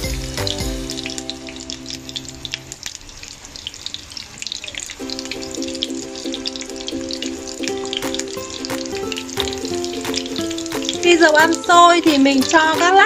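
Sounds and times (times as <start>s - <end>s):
oil crackling in frying pan: 0.0s - 13.0s.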